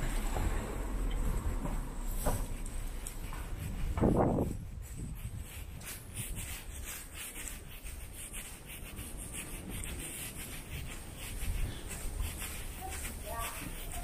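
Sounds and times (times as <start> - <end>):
wind buffeting microphone: 0.0 - 14.0
rubbing and scuffing footsteps: 0.2 - 14.0.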